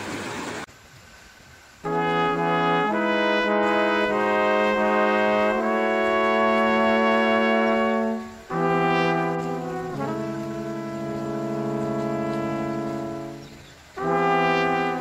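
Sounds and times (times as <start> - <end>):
slow brass chords: 1.8 - 15.0.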